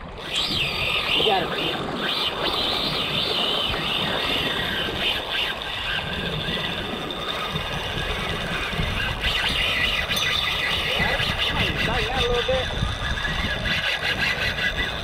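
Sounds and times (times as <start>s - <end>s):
fishing reel gears whirring: 0.0s - 15.0s
wind rumbling on microphone: 0.0s - 15.0s.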